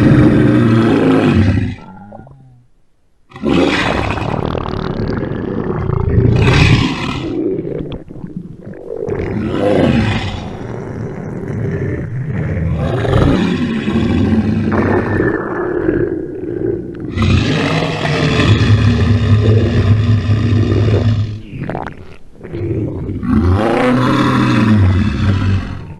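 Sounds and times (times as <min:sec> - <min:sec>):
cartoon stomach rumble: 0:03.6 - 0:17.8, 0:18.4 - 0:25.9.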